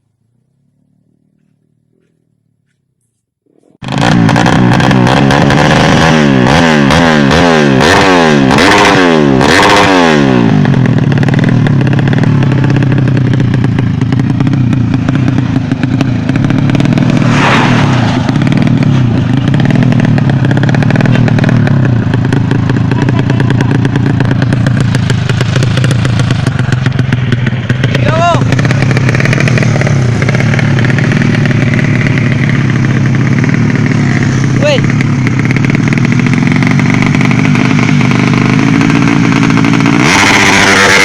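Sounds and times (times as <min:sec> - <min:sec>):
motorcycle engine revving: 0:00.0 - 0:02.8, 0:03.6 - 0:41.0.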